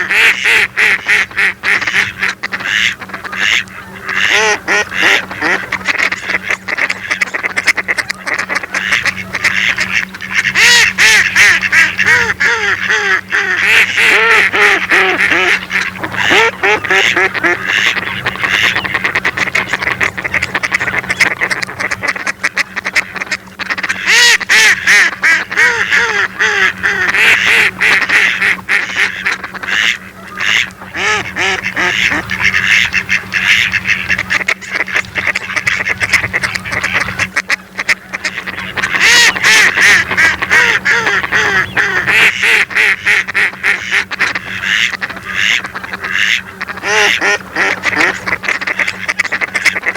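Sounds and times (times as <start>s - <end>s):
ducks quacking: 0.0s - 49.9s
steady low hum: 0.0s - 49.9s.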